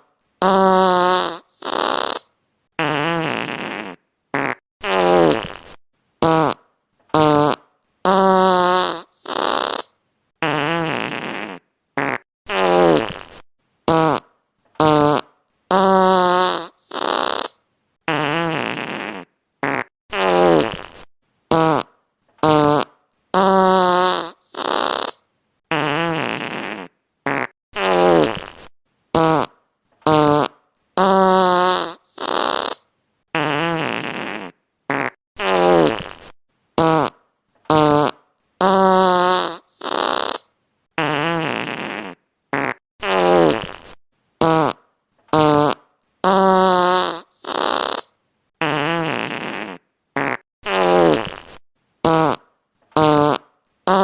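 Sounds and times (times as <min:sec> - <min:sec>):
fart sound effects: 0:00.4 - 0:54.0.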